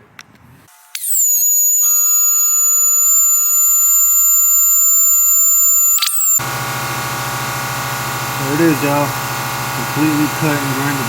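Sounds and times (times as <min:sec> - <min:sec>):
grinder whining cutting metal: 0:00.7 - 0:11.0.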